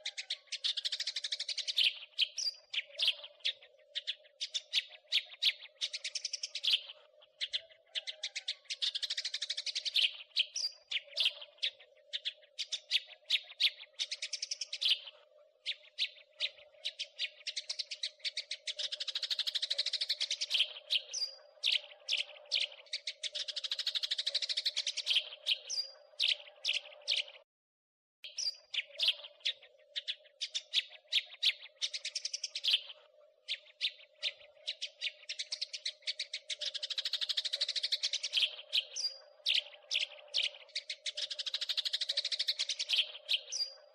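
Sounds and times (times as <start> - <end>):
sparrow chirping: 0.0 - 27.4, 28.2 - 43.9.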